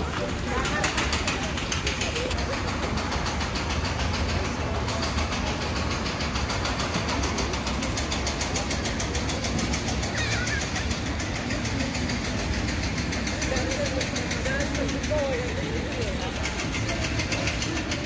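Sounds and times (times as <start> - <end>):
engine humming with fast pulse: 0.0 - 18.0.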